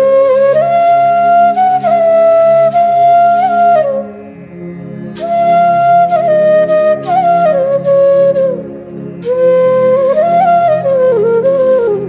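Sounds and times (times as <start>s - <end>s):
bamboo flute melody: 0.0s - 12.0s
low drone: 0.0s - 12.0s.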